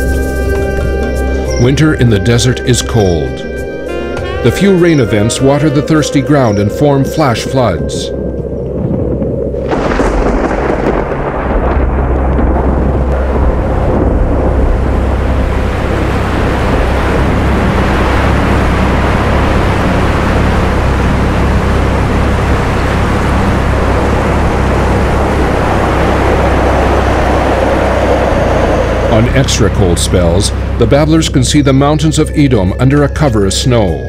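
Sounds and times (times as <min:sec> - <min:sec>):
flood water rushing: 0:00.0 - 0:32.3
deep rumble: 0:00.0 - 0:34.0.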